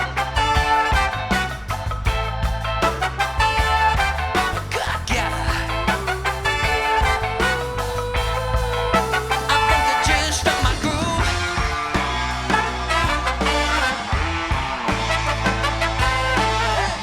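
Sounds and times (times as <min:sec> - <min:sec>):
upbeat soul band instrumental: 0:00.0 - 0:17.0.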